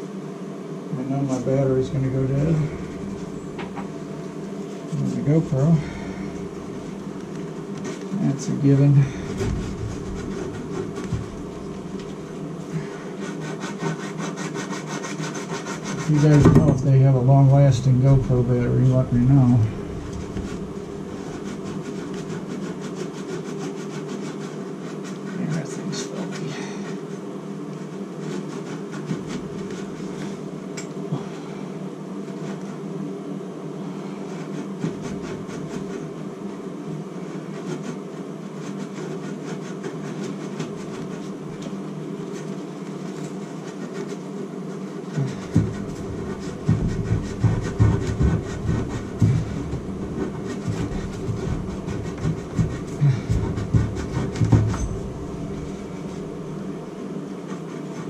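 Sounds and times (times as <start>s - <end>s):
steady low hum: 0.0s - 58.0s
pipe being scrubbed by hand: 1.1s - 30.6s, 33.9s - 58.0s.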